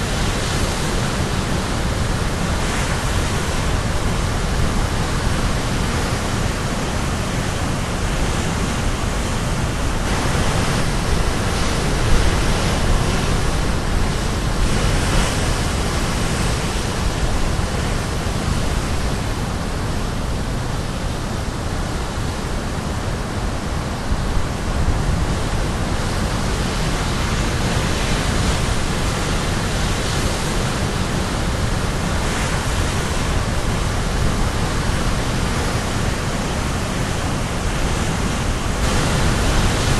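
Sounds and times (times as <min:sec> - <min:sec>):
surf breaking on shore: 0:00.0 - 0:20.4, 0:24.0 - 0:39.9
wind on microphone: 0:00.0 - 0:39.9.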